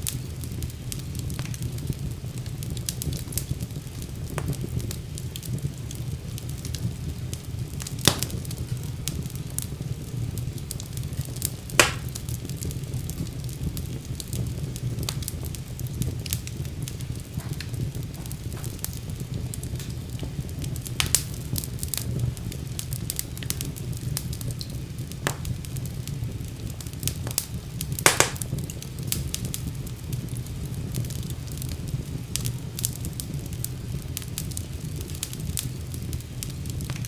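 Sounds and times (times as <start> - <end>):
fire crackling and popping: 0.0 - 37.0.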